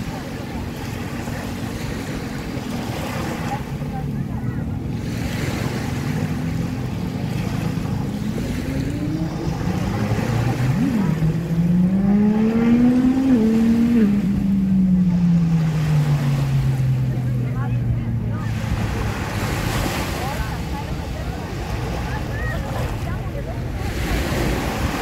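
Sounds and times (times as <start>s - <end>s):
engine droning past: 0.0s - 25.0s
small waves washing on shore: 0.0s - 25.0s.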